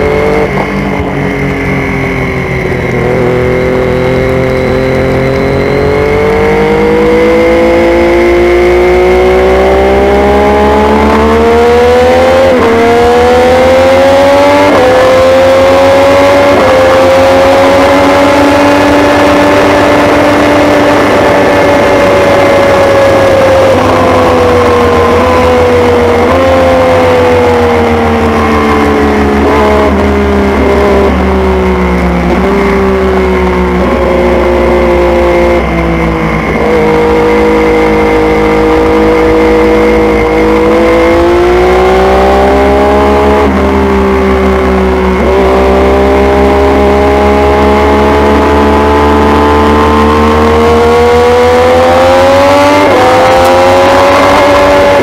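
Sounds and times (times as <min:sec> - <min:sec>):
race motorcycle engine: 0:00.0 - 0:55.0.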